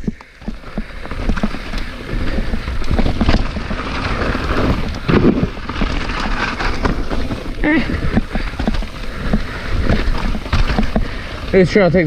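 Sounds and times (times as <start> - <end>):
mountain bike rattling on trail: 0.0 - 12.0
tyres over dirt and rocks: 0.0 - 12.0.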